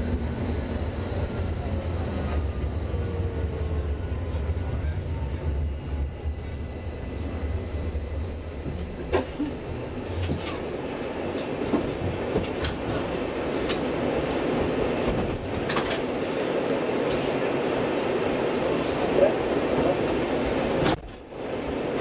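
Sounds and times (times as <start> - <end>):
tram rolling noise: 0.0 - 22.0.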